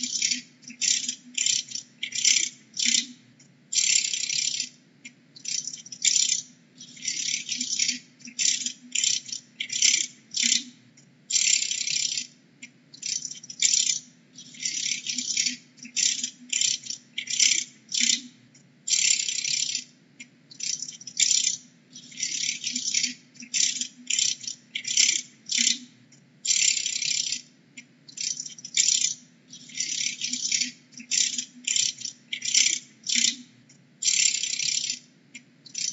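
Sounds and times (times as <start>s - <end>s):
faint steady low hum: 0.0s - 35.9s.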